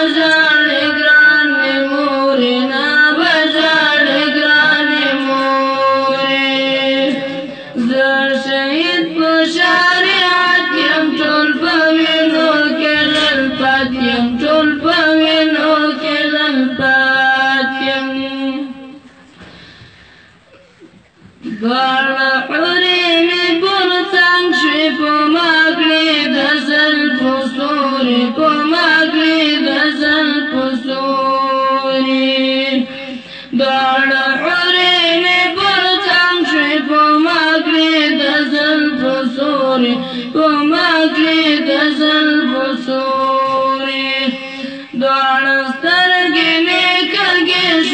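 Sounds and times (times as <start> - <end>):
boy singing: 0.0 - 19.0, 21.4 - 47.9.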